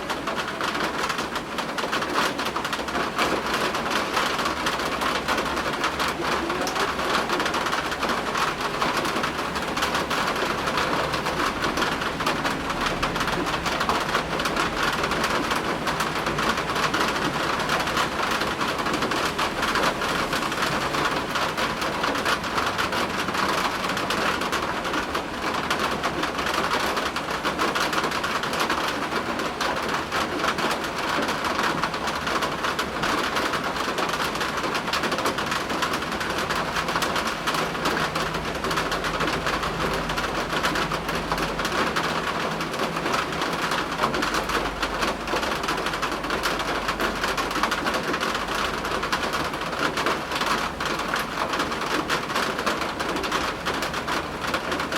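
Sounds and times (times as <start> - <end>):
heavy rain pattering: 0.0 - 54.9.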